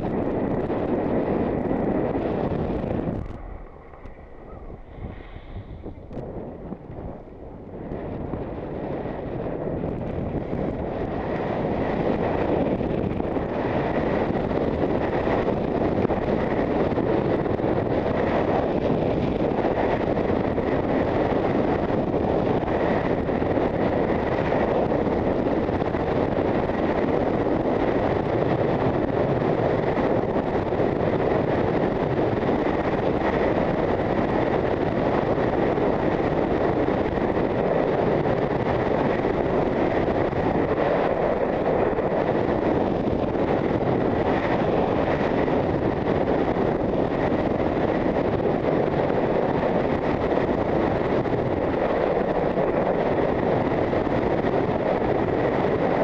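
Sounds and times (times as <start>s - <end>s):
wind rushing over a microphone: 0.0s - 56.0s.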